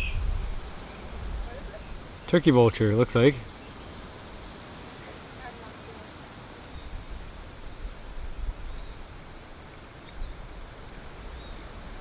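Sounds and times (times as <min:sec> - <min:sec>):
insects droning in trees: 0:00.0 - 0:12.0.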